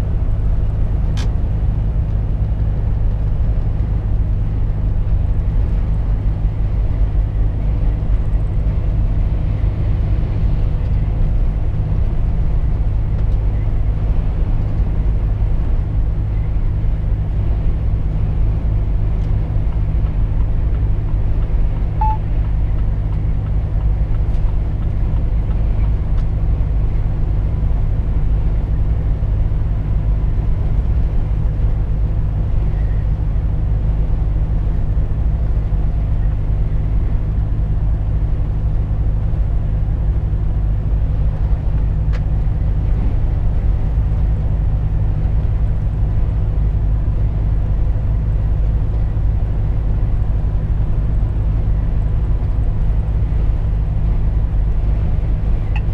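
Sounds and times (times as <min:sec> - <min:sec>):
road noise: 0:00.0 - 0:55.9
truck engine drone in cab: 0:00.0 - 0:55.9.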